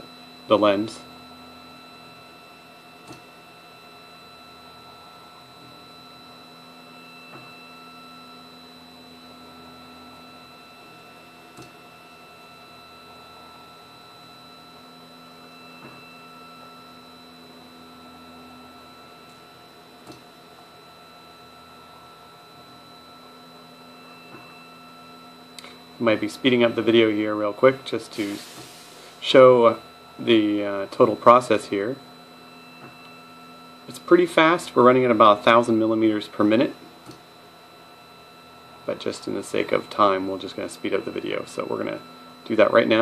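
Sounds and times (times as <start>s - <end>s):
motors and cooling fan humming: 0.0s - 43.0s.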